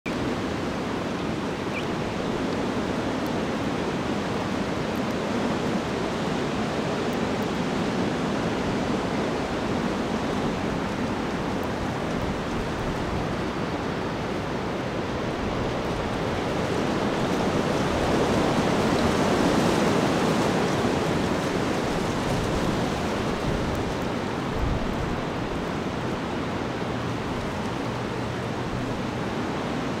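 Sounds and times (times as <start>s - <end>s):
steady rushing outdoor noise: 0.1s - 30.0s.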